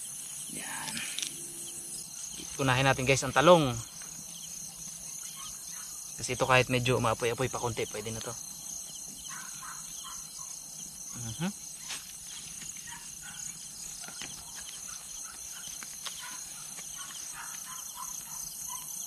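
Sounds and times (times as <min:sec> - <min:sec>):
crickets and insects chirping: 0:00.0 - 0:19.0.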